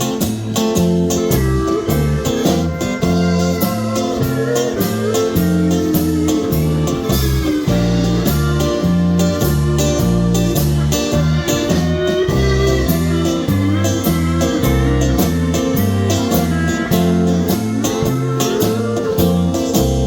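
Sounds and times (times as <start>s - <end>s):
bass line: 0.0s - 20.0s
lead guitar: 0.0s - 20.0s
sliding guitar notes: 0.0s - 20.0s
steady drum beat: 0.0s - 20.0s.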